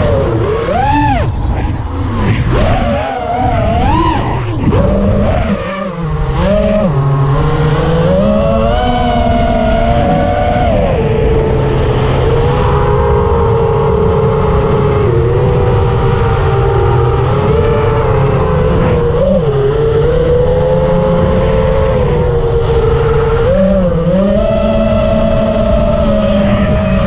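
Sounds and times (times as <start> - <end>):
low rumble: 0.0 - 23.3
drone motors whining: 0.0 - 27.0.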